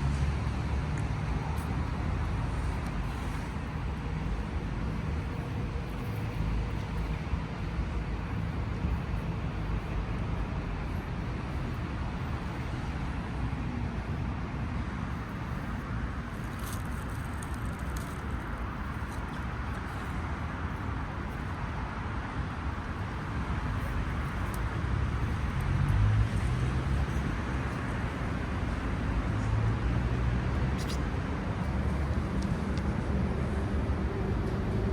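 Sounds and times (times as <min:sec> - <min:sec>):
low traffic rumble: 0:00.0 - 0:34.9.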